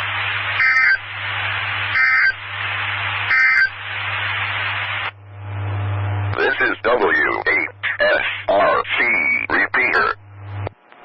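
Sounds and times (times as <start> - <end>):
radio hiss: 0.0 - 10.7.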